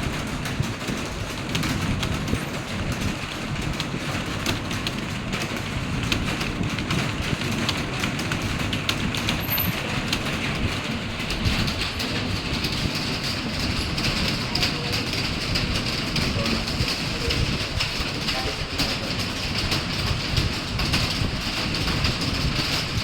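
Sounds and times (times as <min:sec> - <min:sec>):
fast keyboard typing: 0:00.0 - 0:23.0.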